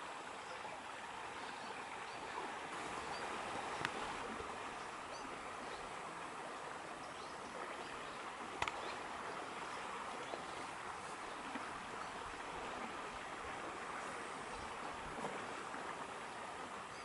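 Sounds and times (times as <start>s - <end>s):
flowing stream: 0.0s - 17.0s.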